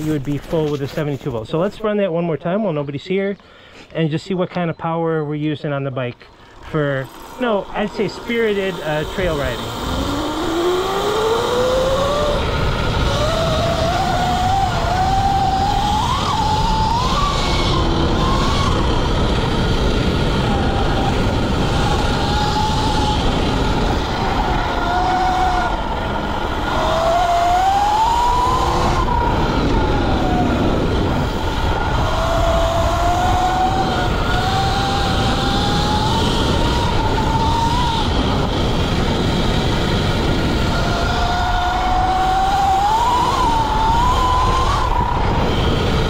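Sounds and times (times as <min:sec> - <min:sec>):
wind rush: 0:00.0 - 0:02.0, 0:06.6 - 0:46.0
electric dirt bike motor whining: 0:06.2 - 0:46.0.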